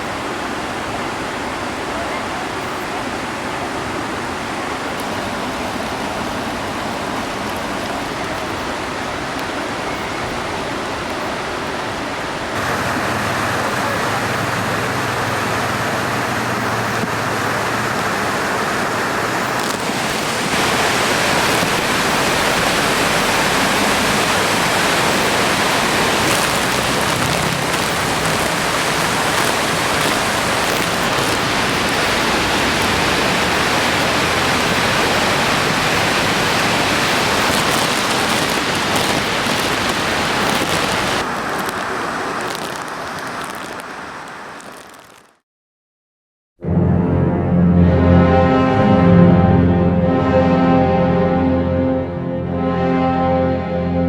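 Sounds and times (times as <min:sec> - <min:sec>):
rushing water: 0:00.0 - 0:45.4.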